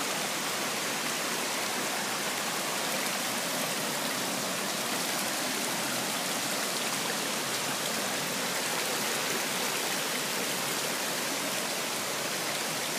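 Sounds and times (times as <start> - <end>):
creek water rushing over rocks: 0.0 - 12.9.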